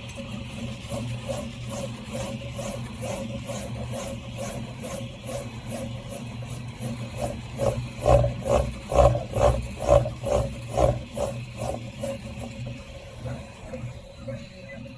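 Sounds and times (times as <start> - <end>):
printer rattling: 0.0 - 14.9
stepper motors whining: 0.3 - 14.9.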